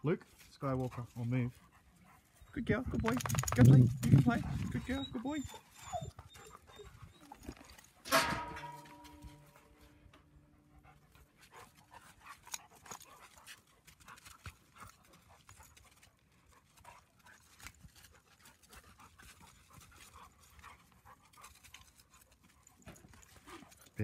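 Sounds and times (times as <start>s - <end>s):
dogs panting and scuffling: 0.2s - 24.0s
paws tapping on dry dirt: 0.7s - 9.8s, 10.9s - 24.0s.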